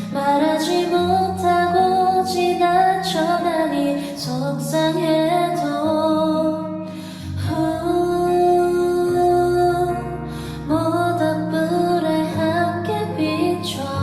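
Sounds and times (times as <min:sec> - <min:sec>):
instrumental backing track: 0:00.0 - 0:14.0
woman singing a ballad: 0:00.0 - 0:14.0.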